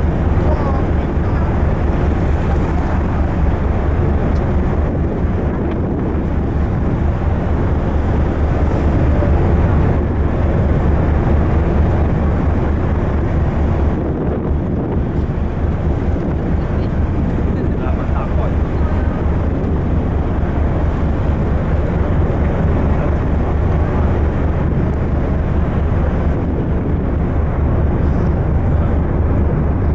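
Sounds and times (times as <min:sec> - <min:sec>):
ship engines rumbling: 0:00.0 - 0:29.9
wind buffeting microphone: 0:00.0 - 0:29.9.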